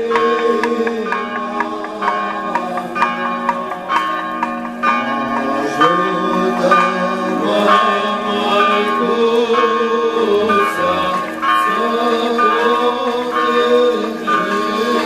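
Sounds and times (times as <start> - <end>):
church bells ringing: 0.0 - 15.0
men chanting: 0.0 - 15.0.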